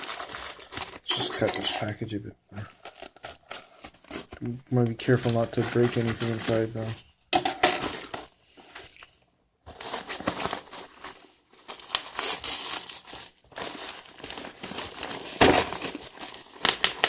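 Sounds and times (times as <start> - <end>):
package crinkling and tearing: 0.0 - 1.9, 2.7 - 6.9, 7.8 - 17.0.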